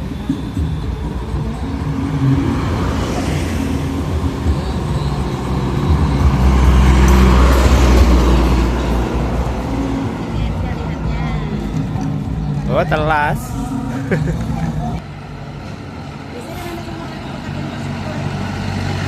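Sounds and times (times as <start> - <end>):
heavy vehicle rumbling past: 0.0 - 19.0.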